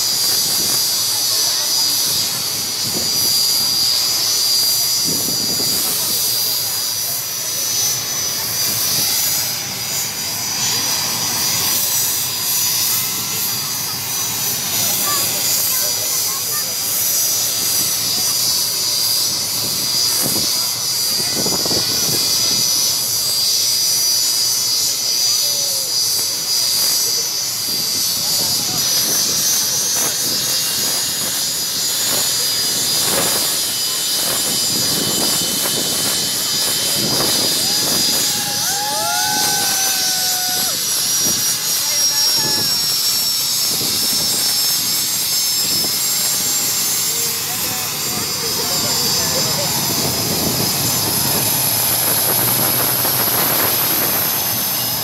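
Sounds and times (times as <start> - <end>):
jet engine running: 0.0 - 55.0.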